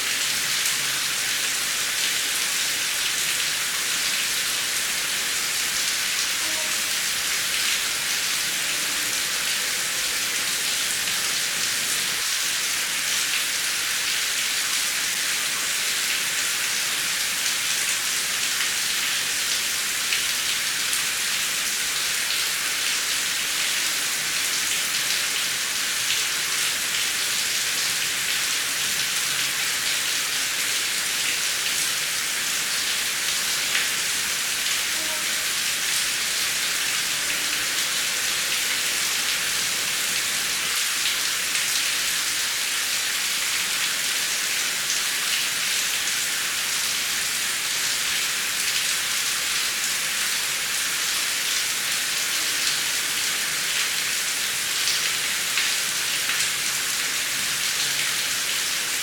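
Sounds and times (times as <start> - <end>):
heavy rain hissing: 0.0 - 13.7, 19.2 - 59.0.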